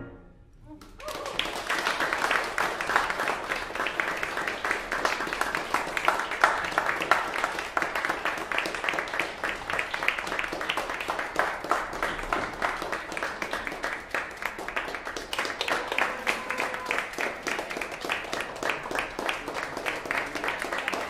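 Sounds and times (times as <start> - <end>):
audience applauding: 0.8 - 21.0.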